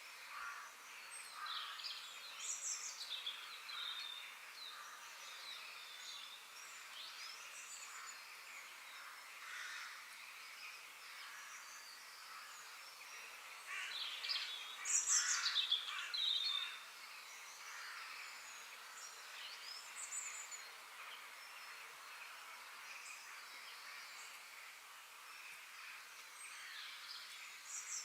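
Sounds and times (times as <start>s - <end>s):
outdoor background hiss: 0.0s - 28.0s
birds singing and chirping: 0.3s - 24.4s.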